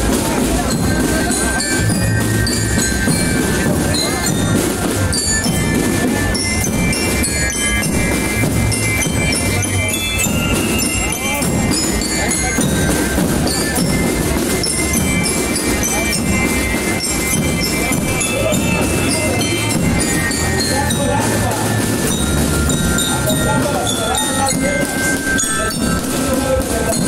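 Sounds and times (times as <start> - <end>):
christmas music: 0.0 - 27.0
tinkling christmas sleigh chimes: 0.0 - 27.0.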